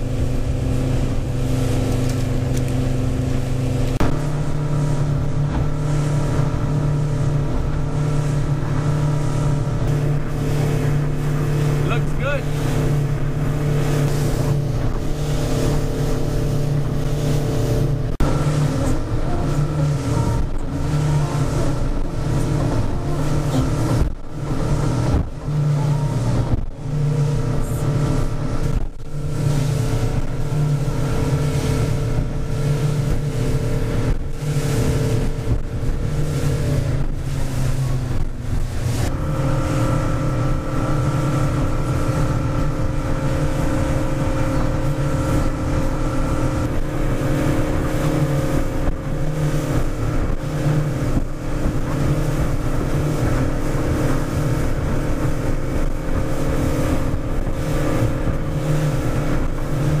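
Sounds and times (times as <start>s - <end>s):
motorboat engine running: 0.0s - 60.0s
water rushing past hull: 0.0s - 60.0s
wind on microphone: 0.0s - 60.0s.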